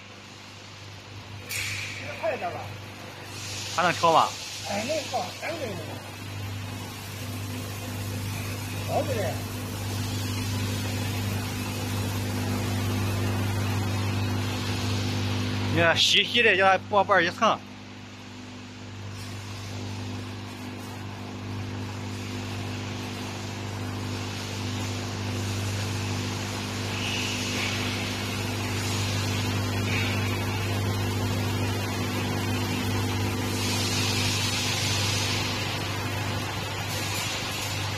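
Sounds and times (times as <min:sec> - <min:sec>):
electric hum: 0:00.0 - 0:37.9
machine hiss: 0:00.0 - 0:37.9.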